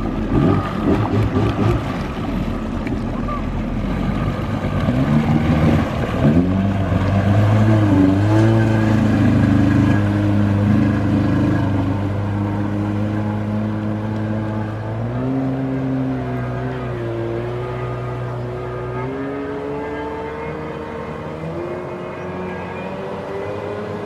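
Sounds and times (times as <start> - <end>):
jet ski engine running: 0.0 - 24.0.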